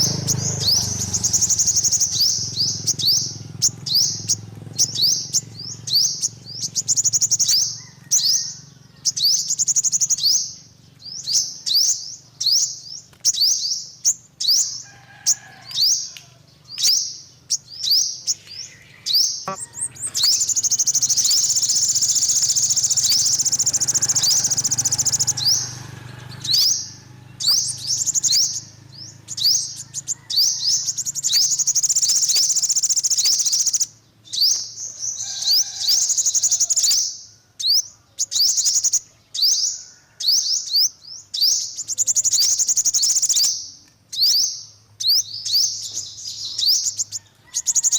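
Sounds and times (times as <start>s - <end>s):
bird chirping and twittering: 0.0s - 47.9s.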